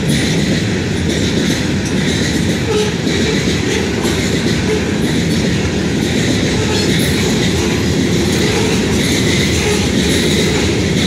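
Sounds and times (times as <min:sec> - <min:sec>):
clickety-clack over rail joints: 0:00.0 - 0:11.0
train wheels rumbling on rails: 0:00.0 - 0:11.0.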